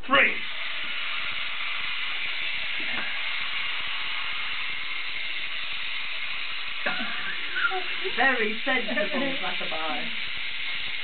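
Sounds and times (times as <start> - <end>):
wind-up toys buzzing whirr: 0.3 - 11.0.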